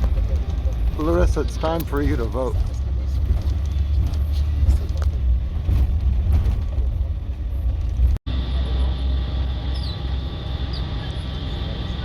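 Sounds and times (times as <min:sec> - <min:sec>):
bus rumbling on the road: 0:00.0 - 0:12.0.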